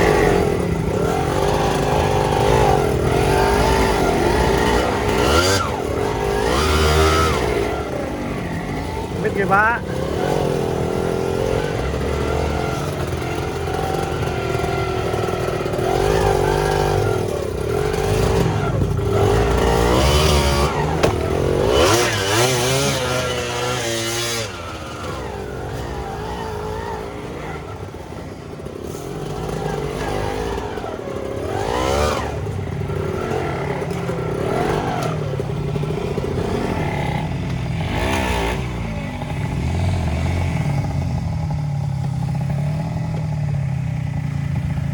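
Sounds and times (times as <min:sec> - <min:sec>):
clatter under engine: 0:00.0 - 0:44.9
two-stroke motorbike engine revving: 0:00.0 - 0:44.9.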